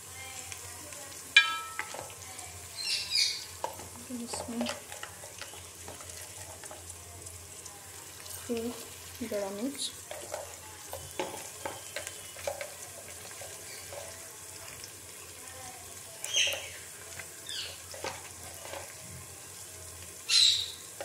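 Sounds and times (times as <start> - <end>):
food sizzling in a pot: 0.0 - 21.0.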